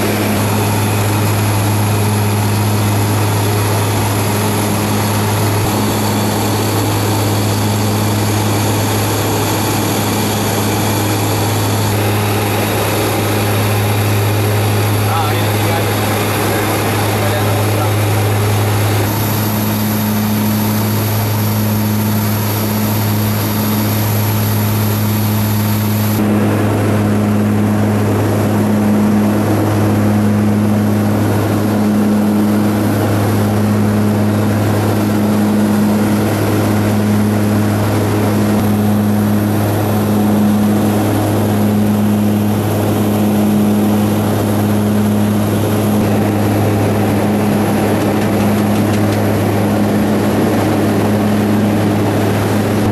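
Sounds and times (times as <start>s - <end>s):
propeller aircraft engines droning: 0.0s - 52.9s.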